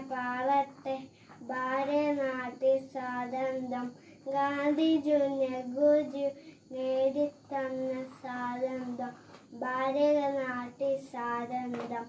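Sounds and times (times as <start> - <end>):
boy singing: 0.0 - 12.0.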